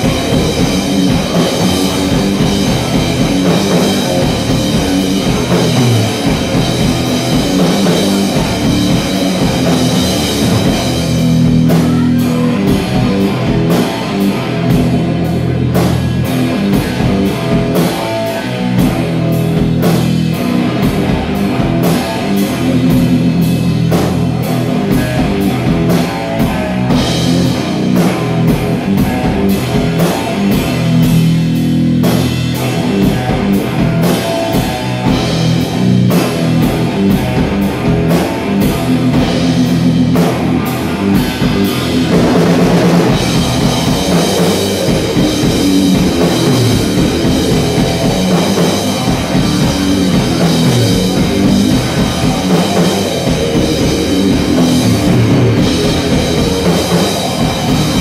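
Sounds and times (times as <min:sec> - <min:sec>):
drum kit: 0:00.0 - 0:58.0
heavy electric guitar riffs: 0:00.0 - 0:58.0.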